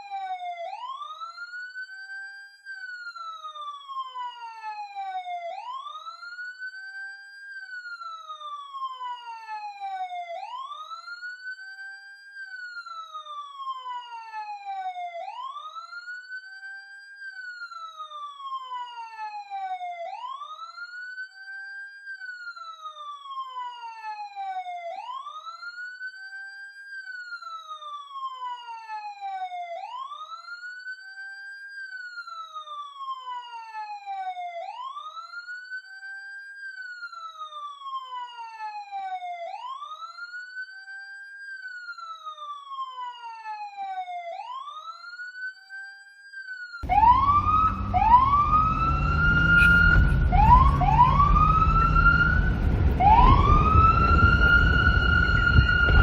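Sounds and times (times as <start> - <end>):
police siren wailing: 0.0 - 56.0.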